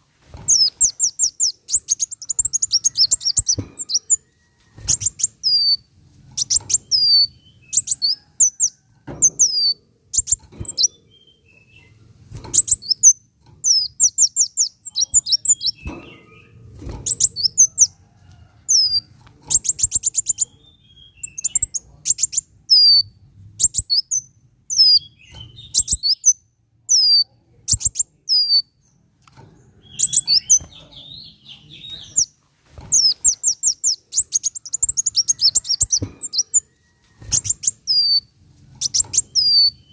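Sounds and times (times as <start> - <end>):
sunbird chirping: 0.5 - 4.2, 4.9 - 18.0, 19.6 - 28.8, 29.8 - 32.3, 32.9 - 36.6, 37.3 - 39.9.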